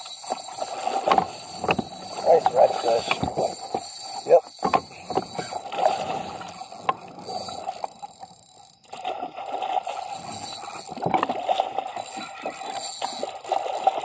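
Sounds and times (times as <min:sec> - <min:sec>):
water lapping against kayak hull: 0:00.0 - 0:14.0.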